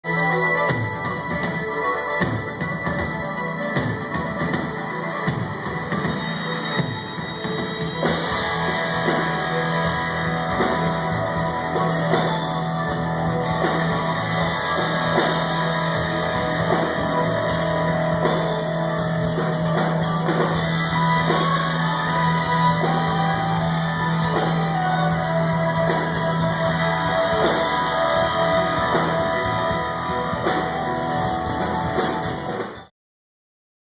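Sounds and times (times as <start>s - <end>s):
rock music with guitar and drums: 0.0s - 32.9s.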